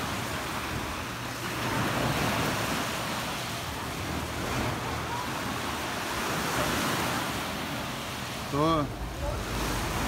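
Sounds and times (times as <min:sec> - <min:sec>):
sea waves on sandy beach: 0:00.0 - 0:10.0.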